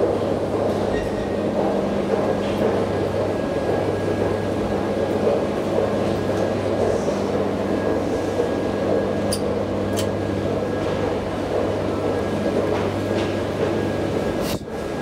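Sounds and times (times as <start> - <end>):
metro station hum and rumble: 0.0 - 15.0.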